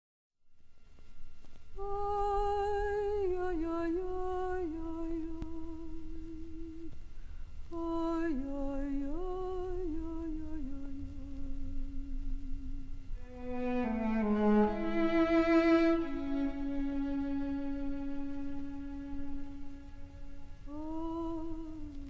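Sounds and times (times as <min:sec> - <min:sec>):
low recording noise hum: 0:00.4 - 0:22.0
woman humming a melody: 0:01.8 - 0:07.0, 0:07.7 - 0:22.0.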